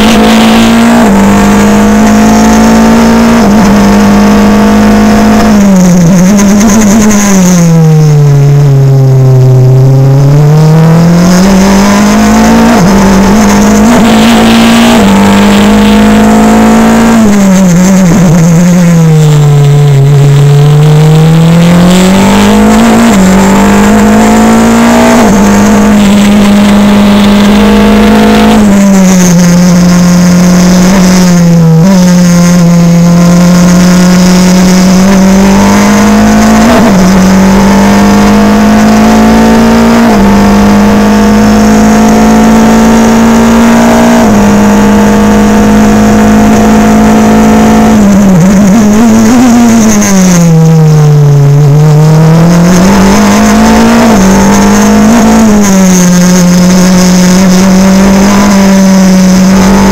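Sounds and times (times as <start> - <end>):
racing car engine at high revs: 0.0 - 59.9.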